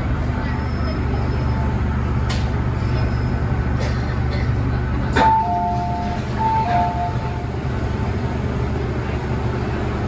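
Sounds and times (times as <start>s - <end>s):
train low hum: 0.0s - 10.0s.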